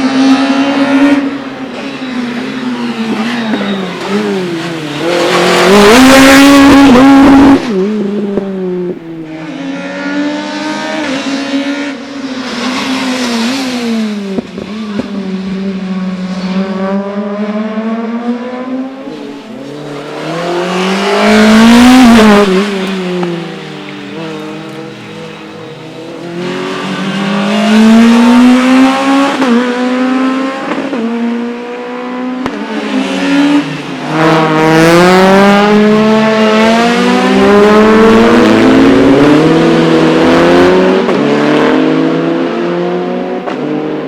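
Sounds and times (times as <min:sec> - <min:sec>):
rally car engine accelerating: 0:00.0 - 0:44.0.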